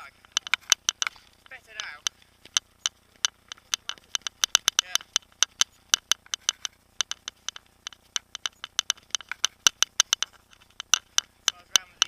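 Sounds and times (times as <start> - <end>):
mountain bike rattling: 0.0 - 12.0.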